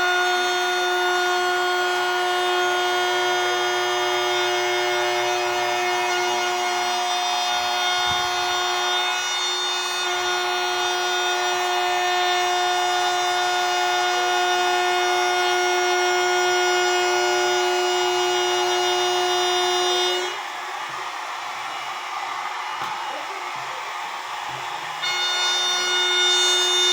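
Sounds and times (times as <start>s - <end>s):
power tool motor whining: 0.0s - 26.9s.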